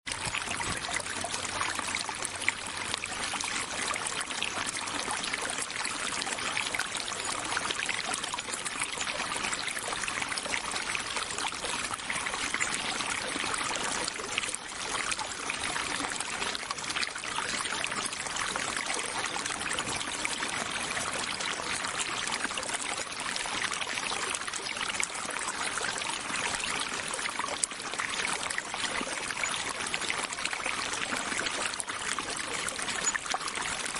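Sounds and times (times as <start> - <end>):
stream trickling over stones: 0.0 - 33.9.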